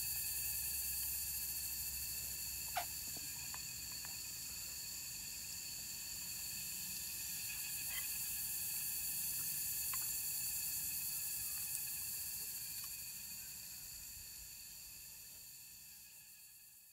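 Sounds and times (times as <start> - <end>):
hiss: 0.0 - 16.9
insect chorus: 0.0 - 16.9.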